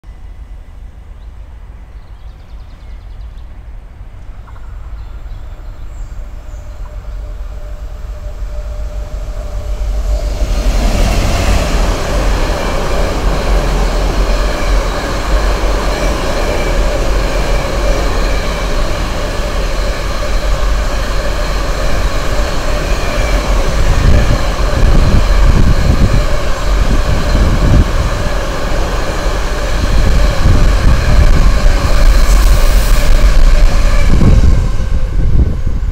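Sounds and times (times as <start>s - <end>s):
diesel locomotive engine passing: 0.0s - 35.9s
train wheels rumbling on rails: 0.0s - 35.9s.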